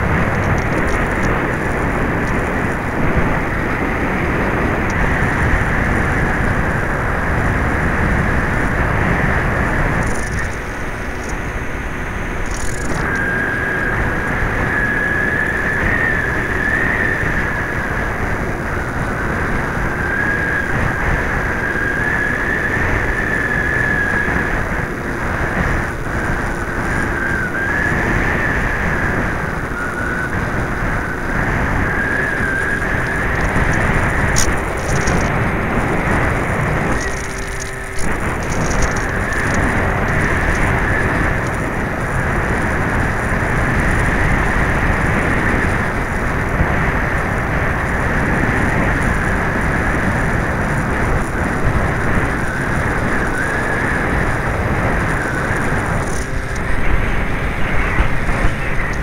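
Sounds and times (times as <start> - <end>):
model plane motor and propeller: 0.0 - 59.0
wind rush: 0.0 - 59.0.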